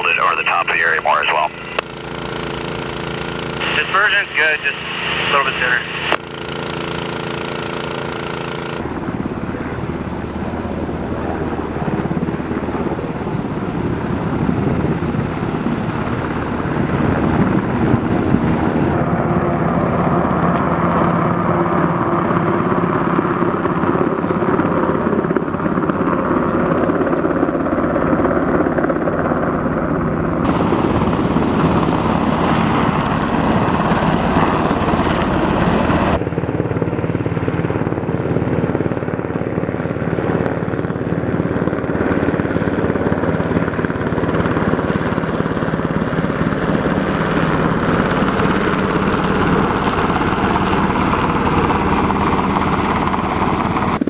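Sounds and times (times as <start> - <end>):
helicopter flying low: 0.0 - 54.0.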